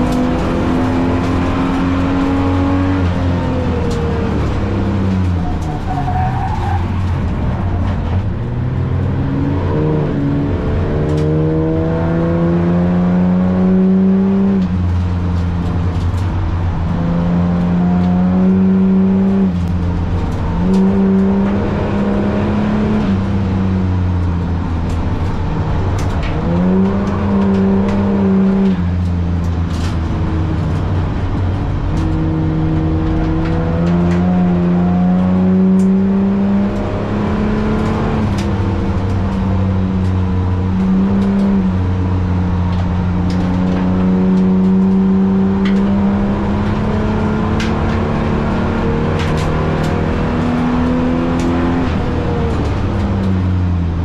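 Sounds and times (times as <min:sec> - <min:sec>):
car engine revving under load: 0:00.0 - 0:54.0.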